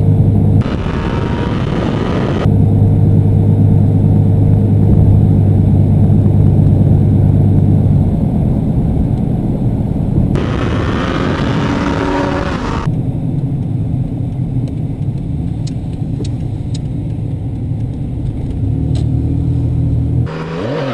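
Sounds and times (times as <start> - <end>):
engine with rushing noise: 0.0 - 20.9
vehicle engine droning: 0.0 - 20.9.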